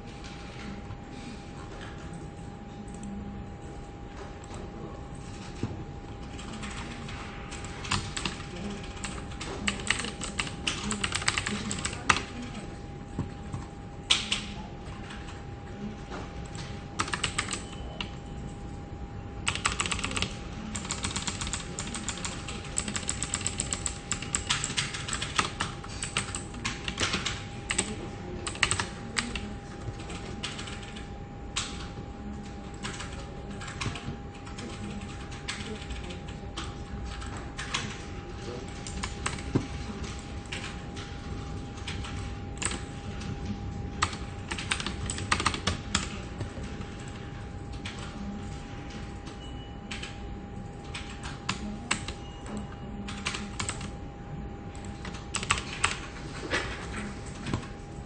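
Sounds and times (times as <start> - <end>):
faint hum: 0.0 - 58.0
keyboard typing: 0.2 - 18.6, 19.4 - 54.0, 54.7 - 58.0.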